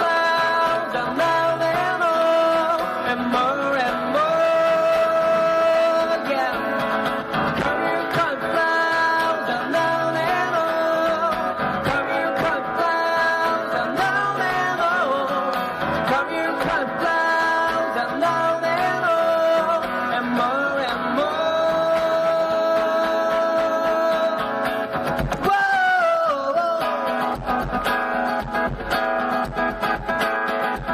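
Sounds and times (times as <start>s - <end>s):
guitar playing: 0.0s - 30.9s
person singing: 0.0s - 30.9s.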